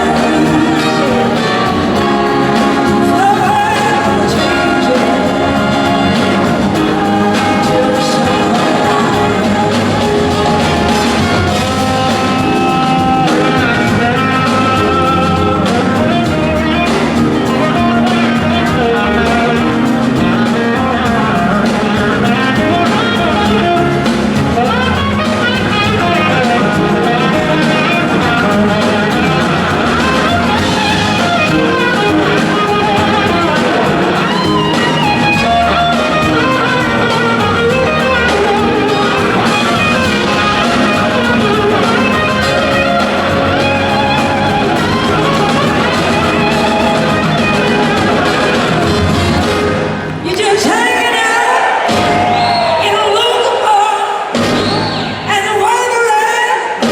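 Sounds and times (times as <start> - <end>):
electric guitar: 0.0 - 53.6
live blues-rock band playing: 0.0 - 53.6, 54.2 - 56.9.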